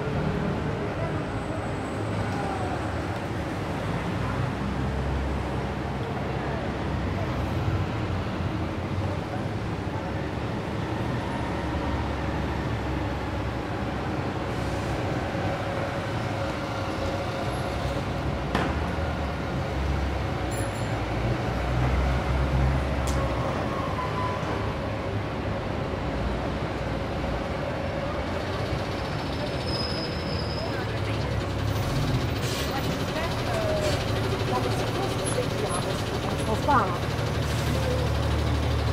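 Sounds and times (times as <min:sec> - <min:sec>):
traffic rumble: 0:00.0 - 0:38.9.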